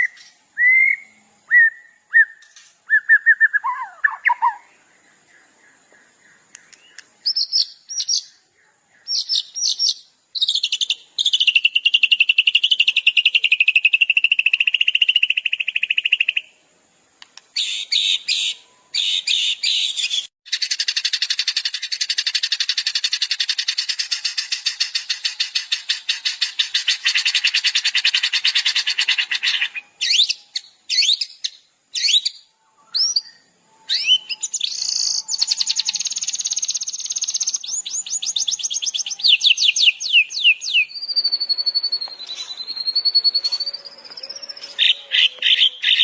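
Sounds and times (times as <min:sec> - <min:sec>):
songbird singing: 0:00.0 - 0:46.0.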